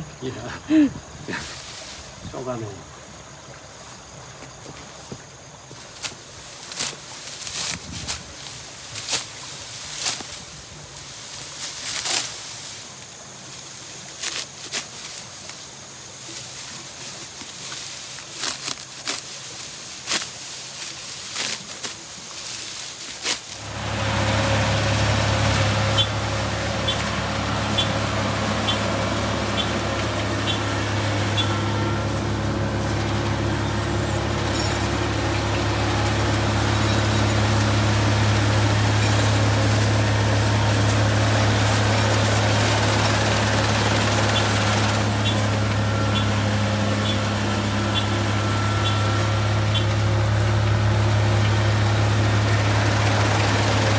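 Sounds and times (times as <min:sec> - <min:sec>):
combine harvester engine running: 0:00.0 - 0:03.8, 0:05.8 - 0:53.9
rice stalks rustling: 0:00.0 - 0:53.9
sickle cutting rice stalks: 0:00.0 - 0:53.9.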